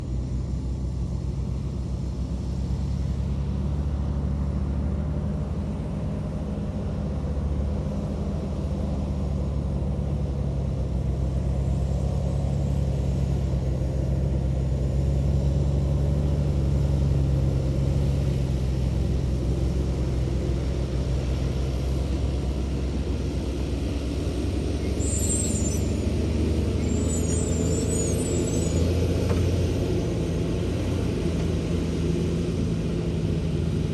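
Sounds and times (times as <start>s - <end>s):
diesel engine low drone: 0.0s - 33.9s.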